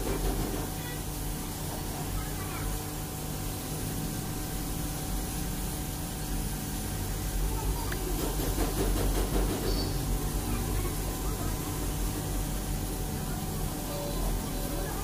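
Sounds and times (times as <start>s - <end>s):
steady hiss and low hum: 0.0s - 8.4s, 9.8s - 15.0s.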